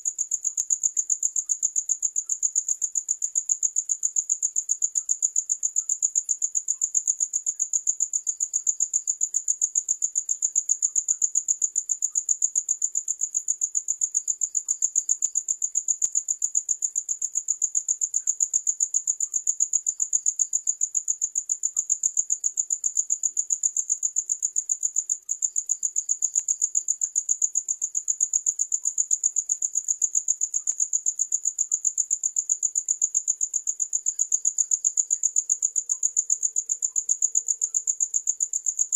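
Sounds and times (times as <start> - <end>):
crickets chirping: 0.1 - 38.9.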